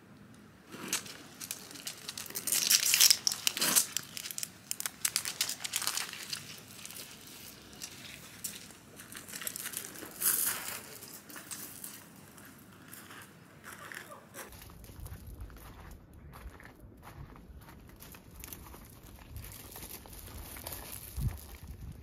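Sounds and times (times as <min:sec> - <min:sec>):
crinkling and rustling: 0:00.7 - 0:15.3, 0:17.7 - 0:22.0.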